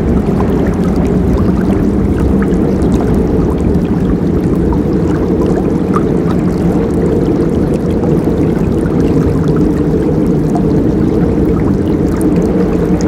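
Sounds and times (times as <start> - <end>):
water gurgles and splashes: 0.0 - 13.0.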